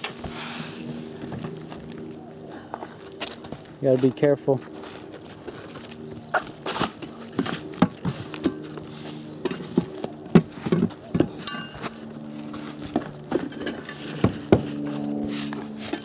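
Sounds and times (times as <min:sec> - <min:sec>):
steady low drone: 0:00.0 - 0:16.0.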